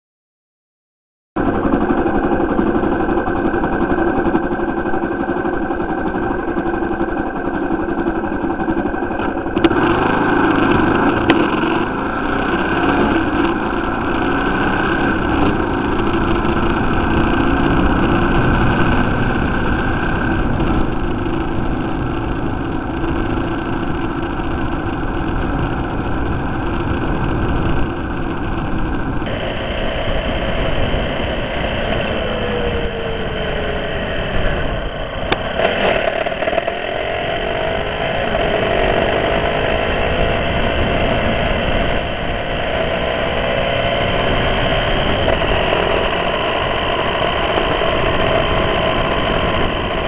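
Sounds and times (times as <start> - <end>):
motorcycle engine running: 1.4 - 50.0.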